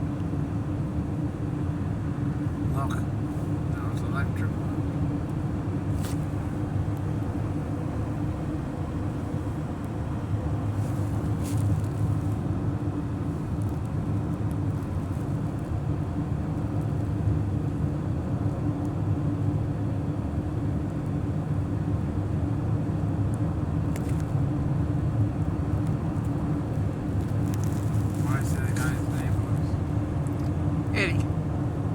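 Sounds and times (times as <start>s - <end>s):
car engine and road noise: 0.0s - 31.9s.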